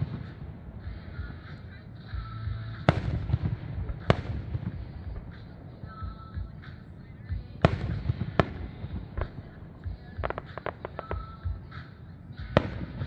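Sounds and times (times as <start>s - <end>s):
fireworks loud bangs: 0.0s - 13.0s
low rumble of fireworks bursts: 0.0s - 13.0s.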